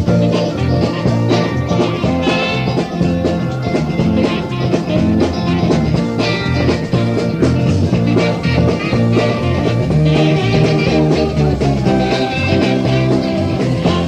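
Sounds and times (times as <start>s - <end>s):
dance band playing: 0.0s - 14.0s.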